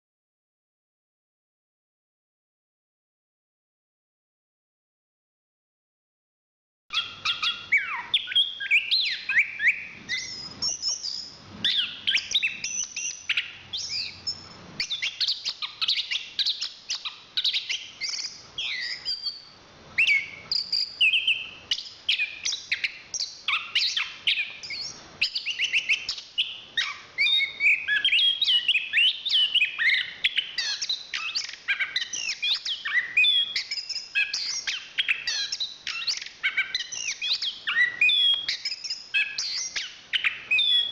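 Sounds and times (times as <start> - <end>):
thrush singing chirps and trills: 6.9 - 40.9.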